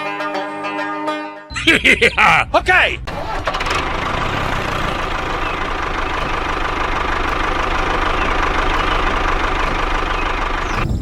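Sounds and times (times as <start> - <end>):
tractor engine idling: 1.6 - 11.0.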